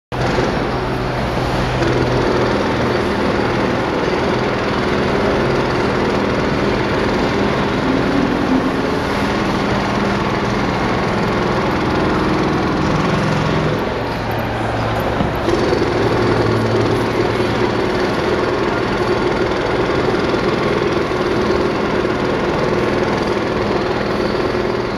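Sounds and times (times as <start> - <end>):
jackhammer hammering: 0.2 - 24.9.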